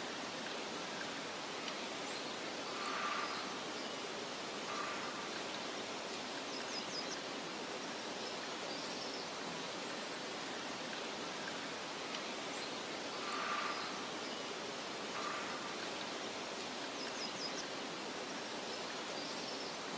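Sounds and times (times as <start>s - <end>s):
wind through grass: 0.0s - 19.9s.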